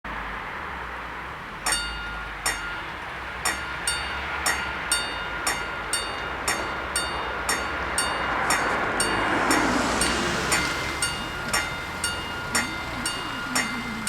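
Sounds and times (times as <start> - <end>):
level crossing bells ringing: 1.6 - 14.0.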